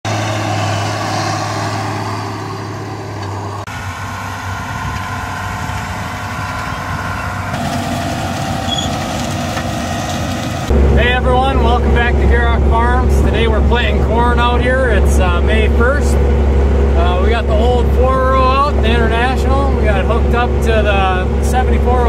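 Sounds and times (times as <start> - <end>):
tractor diesel engines running: 0.0 - 22.0.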